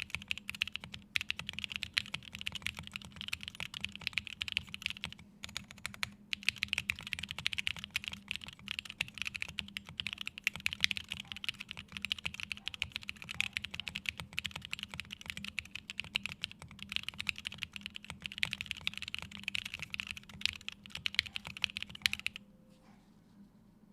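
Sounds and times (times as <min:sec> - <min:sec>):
fast mechanical keyboard typing: 0:00.0 - 0:22.4.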